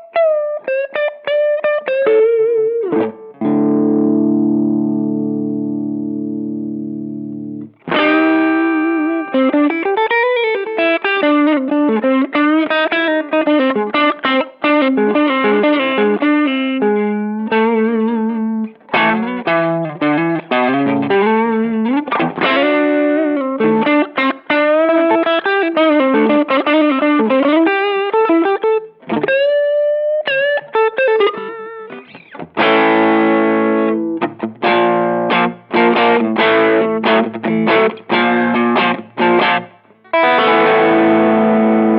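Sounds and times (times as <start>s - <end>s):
overdriven electric guitar: 0.0s - 41.9s.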